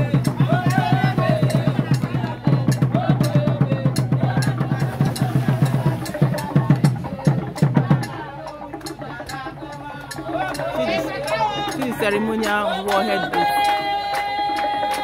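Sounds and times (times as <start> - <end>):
drums beaten fast: 0.0 - 15.0
voices singing: 0.0 - 15.0.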